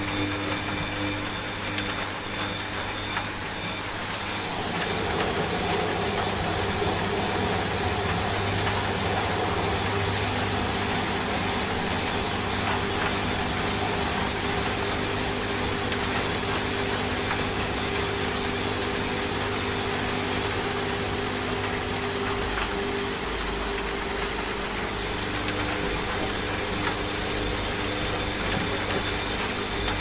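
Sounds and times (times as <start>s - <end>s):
rain hiss: 0.0s - 30.0s
washing machine running: 0.0s - 30.0s.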